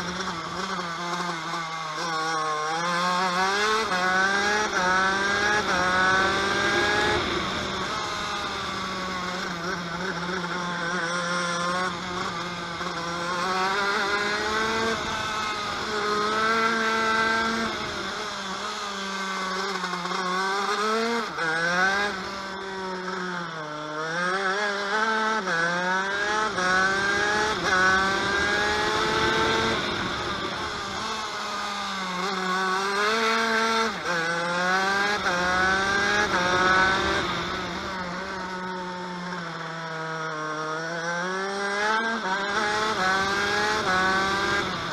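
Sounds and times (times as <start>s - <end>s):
kart engine shifting up gears: 0.0s - 44.9s.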